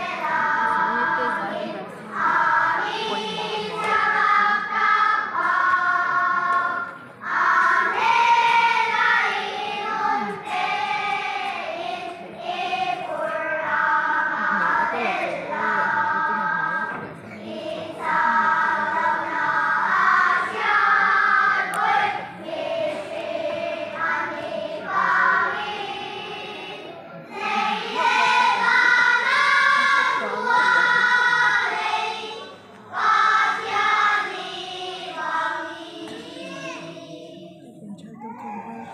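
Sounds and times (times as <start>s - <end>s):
children's choir singing: 0.0s - 38.9s.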